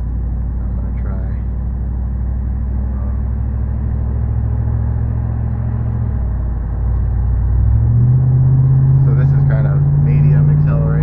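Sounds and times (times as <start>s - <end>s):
engine exhaust drone: 0.0s - 11.0s.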